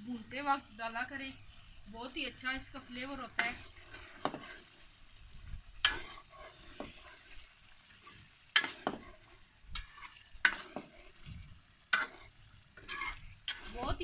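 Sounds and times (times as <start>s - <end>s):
faint sizzle: 0.0s - 14.0s
spoon stirring and scraping pan: 0.0s - 14.0s.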